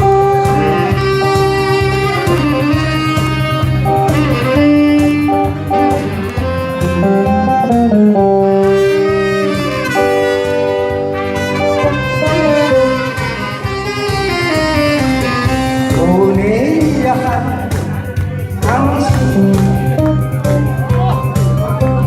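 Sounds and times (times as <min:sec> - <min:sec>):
ballad with guitar melody: 0:00.0 - 0:22.0.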